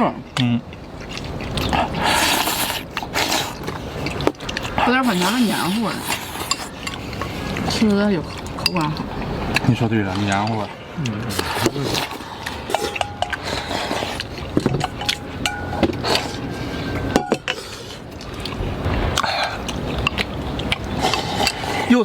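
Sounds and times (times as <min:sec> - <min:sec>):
chopsticks and spoons clinking bowls: 0:00.0 - 0:18.6.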